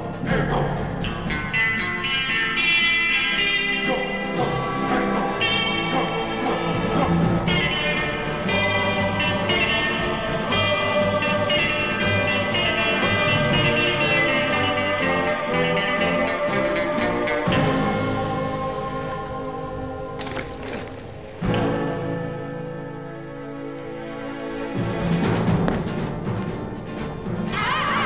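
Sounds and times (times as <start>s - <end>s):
music with plucked guitar: 0.0s - 28.0s.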